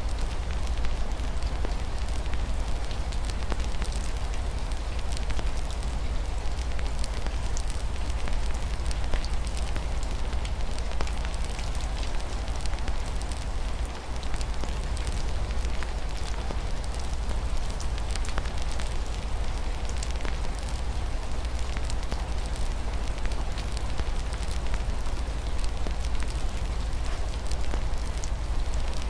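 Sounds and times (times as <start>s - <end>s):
rain on a window: 0.0s - 29.0s
wood fire crackling: 0.0s - 29.0s.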